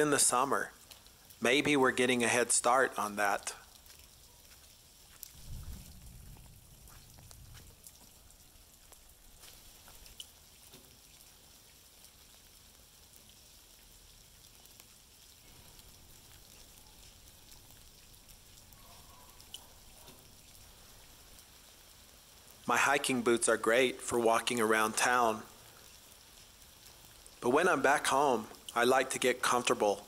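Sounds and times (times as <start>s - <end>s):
drips ticking: 0.0s - 29.8s
faint rain falling: 0.0s - 30.0s.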